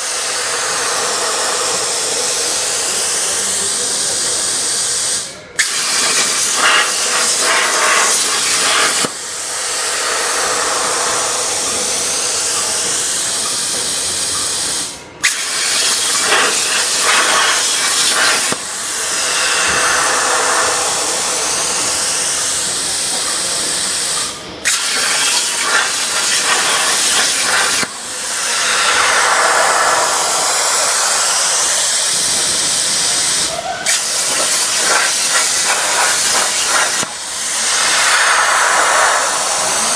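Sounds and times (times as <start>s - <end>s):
plasma cutter torch hissing: 0.0s - 39.9s.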